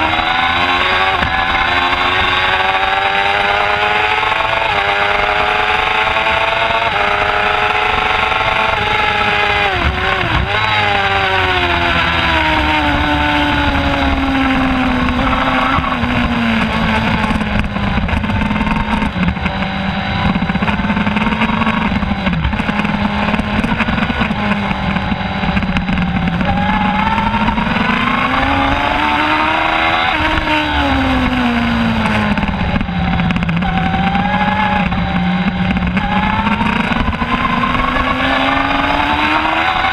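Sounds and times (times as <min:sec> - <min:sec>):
motorcycle engine running hard: 0:00.0 - 0:39.9
wind noise: 0:00.0 - 0:39.9.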